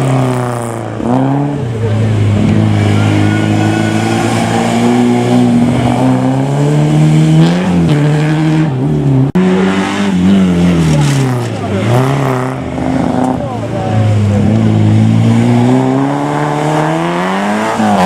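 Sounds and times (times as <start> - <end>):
rally car engine under load: 0.0 - 18.0.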